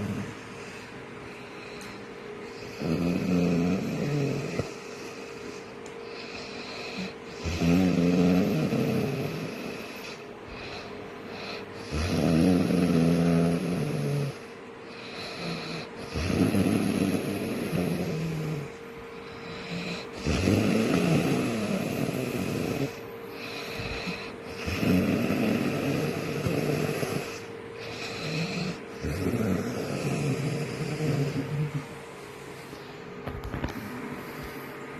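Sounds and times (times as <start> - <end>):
heavy rasping snoring: 0.0 - 0.9, 2.5 - 32.9
faint steady hum: 0.0 - 34.9.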